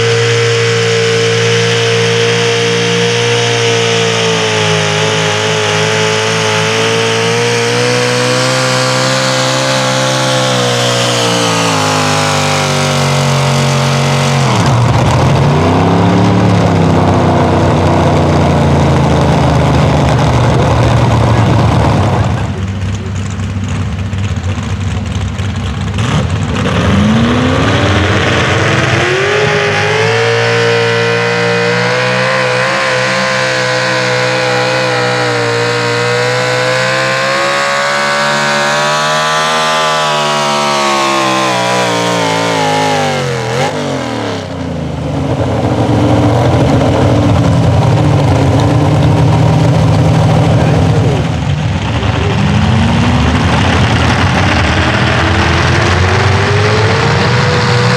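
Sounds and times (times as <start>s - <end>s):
truck engine at high revs: 0.0s - 57.9s.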